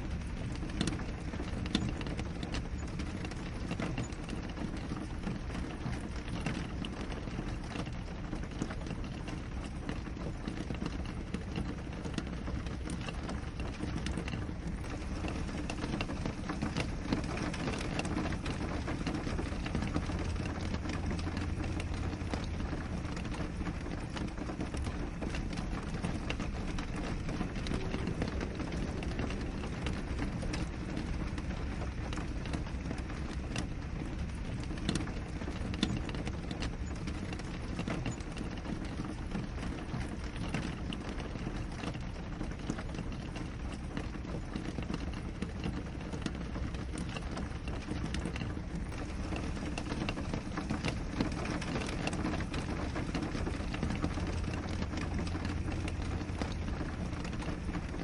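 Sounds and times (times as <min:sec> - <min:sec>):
rain on a window: 0:00.0 - 0:58.0
raindrop taps: 0:00.0 - 0:58.0.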